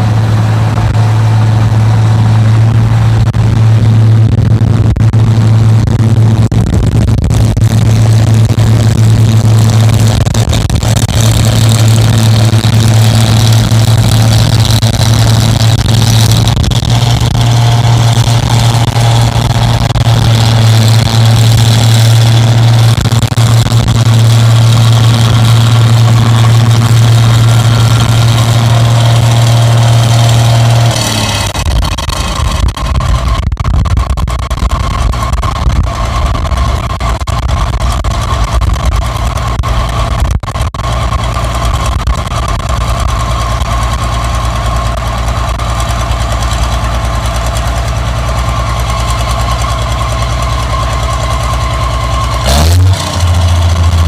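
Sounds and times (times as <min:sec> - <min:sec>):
harvester engine running loudly: 0:00.0 - 0:54.0
high-pitched whine: 0:00.0 - 0:54.0.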